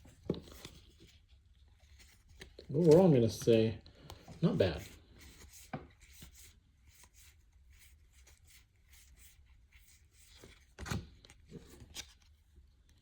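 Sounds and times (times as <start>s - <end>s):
trading cards rustling: 0.1s - 12.4s.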